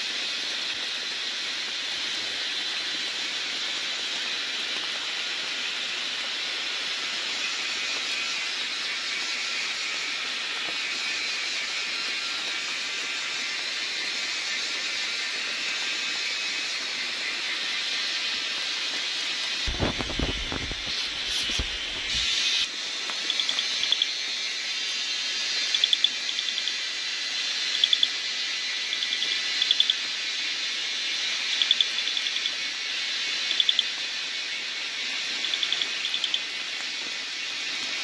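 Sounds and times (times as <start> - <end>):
high-pitched forest hiss: 0.0 - 38.0.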